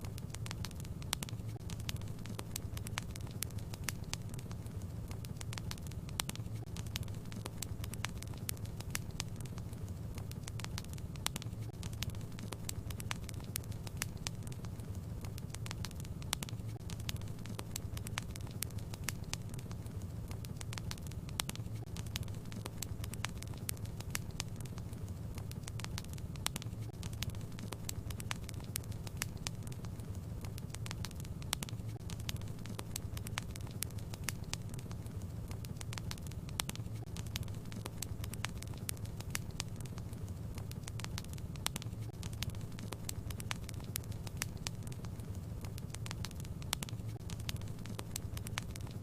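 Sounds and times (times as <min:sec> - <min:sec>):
low rumble of flames: 0:00.0 - 0:49.0
sharp fire pops: 0:00.0 - 0:49.0
wood fire crackling: 0:00.0 - 0:49.0.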